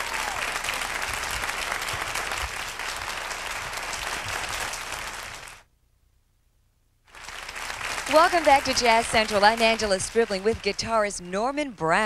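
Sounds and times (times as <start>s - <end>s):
audience applauding: 0.0s - 5.7s, 7.1s - 11.3s.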